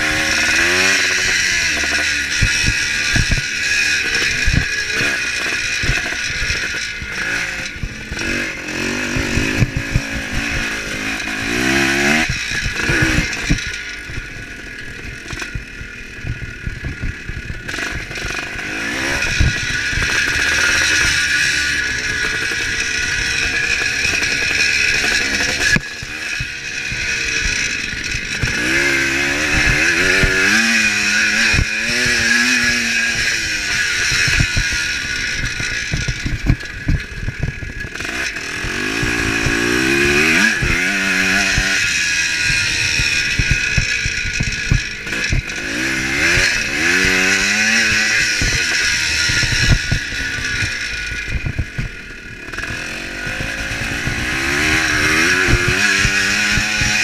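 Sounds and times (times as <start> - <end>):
motorcycle engine revving: 0.0 - 57.0
motorcycle knocking and clattering: 0.0 - 57.0.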